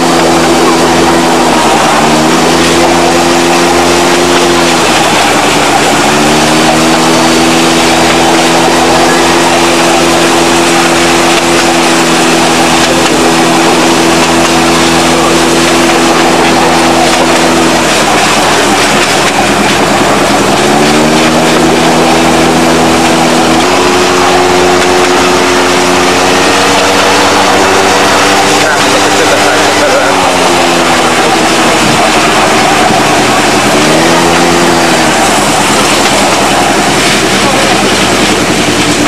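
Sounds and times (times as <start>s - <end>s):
railway vehicle engine running: 0.0s - 39.0s.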